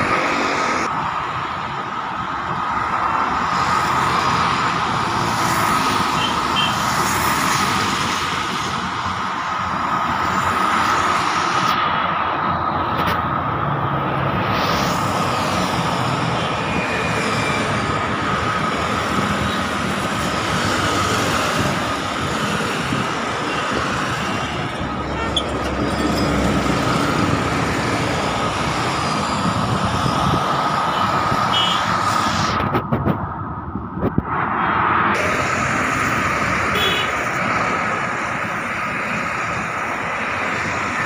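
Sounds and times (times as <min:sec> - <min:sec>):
busy road traffic roar: 0:00.0 - 0:41.0.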